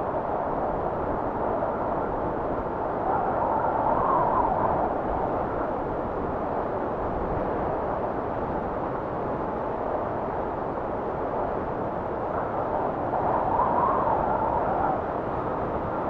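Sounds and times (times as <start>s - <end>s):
blizzard wind blowing: 0.0s - 16.0s.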